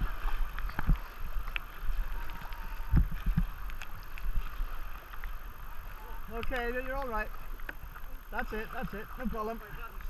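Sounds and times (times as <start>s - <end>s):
paddle splashes: 0.0s - 10.0s.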